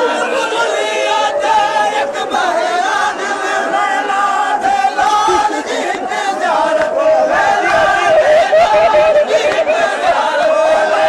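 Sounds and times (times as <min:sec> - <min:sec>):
men singing a lament together: 0:00.0 - 0:11.0.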